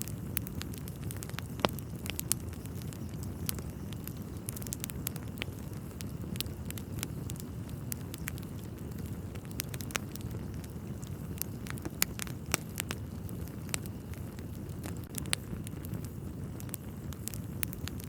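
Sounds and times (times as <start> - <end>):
fire crackles and pops: 0.0 - 18.0
fire rumbling in a fireplace: 0.0 - 18.0.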